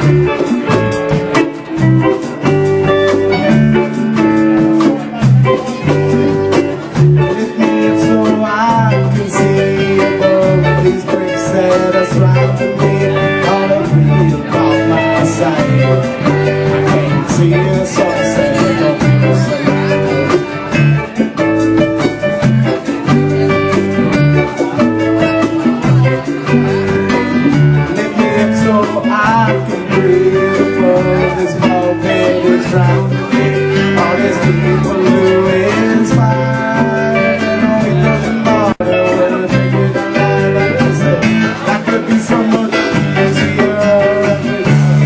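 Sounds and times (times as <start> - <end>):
drum kit: 0.0 - 45.0
electric guitar: 0.0 - 45.0
keyboard: 0.0 - 45.0.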